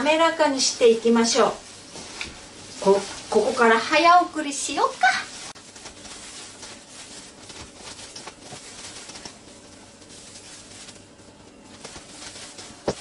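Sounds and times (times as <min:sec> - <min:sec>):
wet squishing and rustling: 0:00.0 - 0:13.0.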